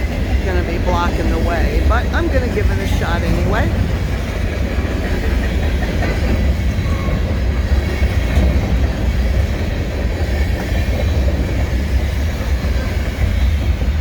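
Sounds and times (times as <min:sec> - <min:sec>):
freight train rumbling on track: 0:00.0 - 0:14.0.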